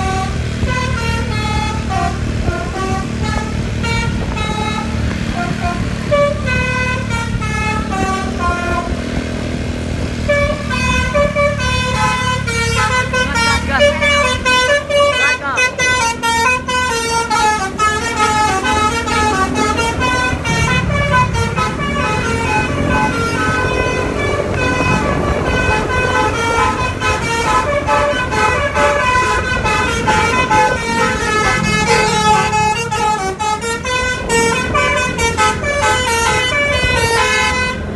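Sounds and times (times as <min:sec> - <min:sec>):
bus engine rumbling: 0:00.0 - 0:37.9
multi-tone musical bus horn: 0:00.0 - 0:37.9.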